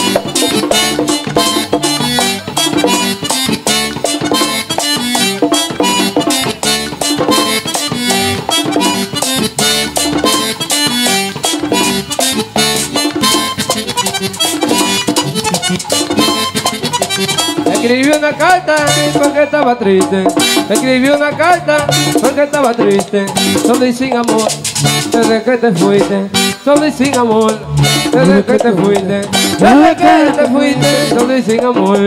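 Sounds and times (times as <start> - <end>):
button accordion: 0.0 - 32.0
merengue band playing: 0.0 - 32.0.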